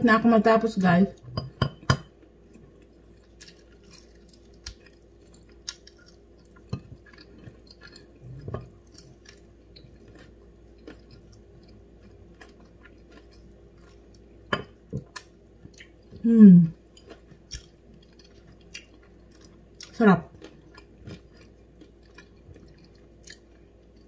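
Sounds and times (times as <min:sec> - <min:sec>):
person chewing meat: 0:02.4 - 0:16.2, 0:16.9 - 0:24.0.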